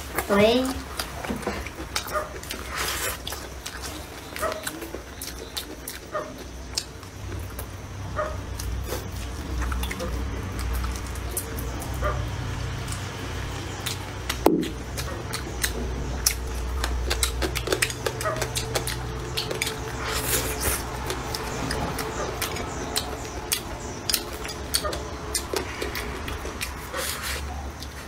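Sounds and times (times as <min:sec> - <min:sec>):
steady low hum: 0:00.0 - 0:28.0
chewing and mouth clicks: 0:00.1 - 0:07.8, 0:08.4 - 0:12.2, 0:12.8 - 0:28.0.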